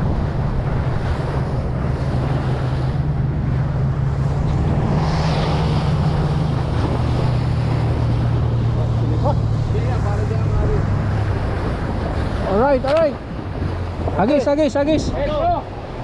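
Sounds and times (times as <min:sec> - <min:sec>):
boat engine running: 0:00.0 - 0:16.0
water rushing past hull: 0:00.0 - 0:16.0
wind buffeting microphone: 0:00.0 - 0:16.0.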